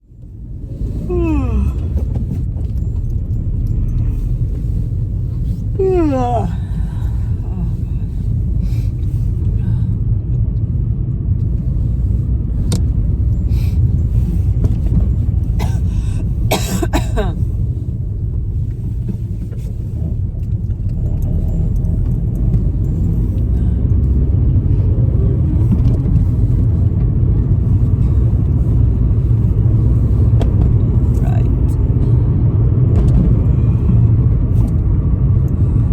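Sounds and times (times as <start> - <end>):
car engine rumble: 0.0 - 35.9
road noise inside moving car: 0.0 - 35.9.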